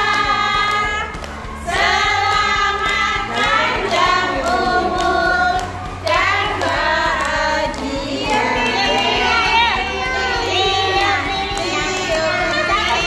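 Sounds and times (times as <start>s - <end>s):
children and adults singing: 0.0s - 13.0s
hands clapping along: 0.0s - 13.0s.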